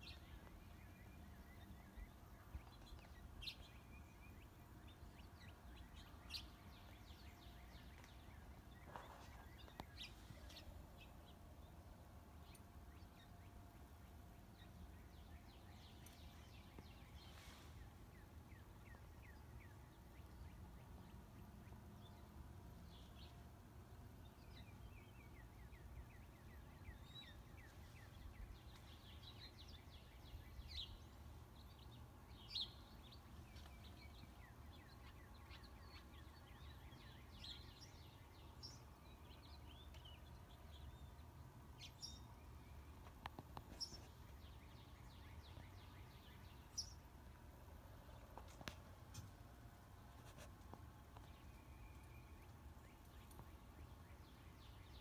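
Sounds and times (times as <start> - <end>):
faint birds chirping: 0.0 - 55.0
low steady hum: 0.0 - 55.0.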